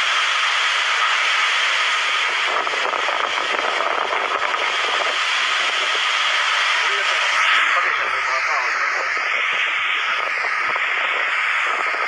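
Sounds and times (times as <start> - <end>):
strong wind and driving rain: 0.0 - 12.0.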